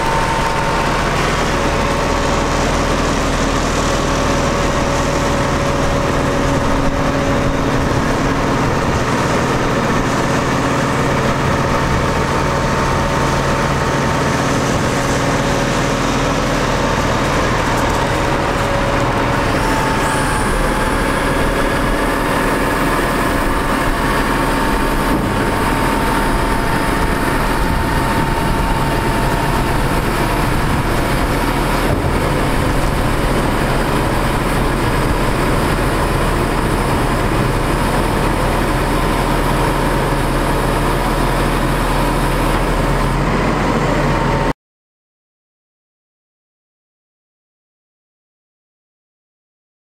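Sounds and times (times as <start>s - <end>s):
diesel truck engine idling: 0.0s - 44.5s.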